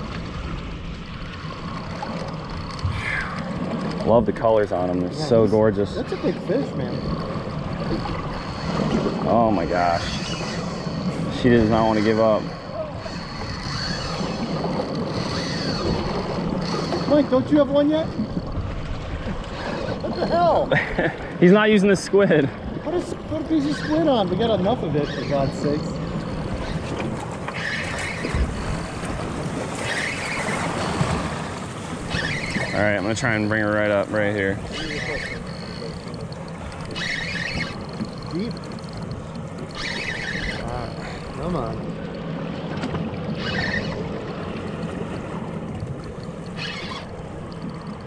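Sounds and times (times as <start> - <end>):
boat engine idling hum: 0.0 - 48.0
sea noise: 0.0 - 48.0
water washing along hull: 0.0 - 48.0
wind: 0.0 - 48.0.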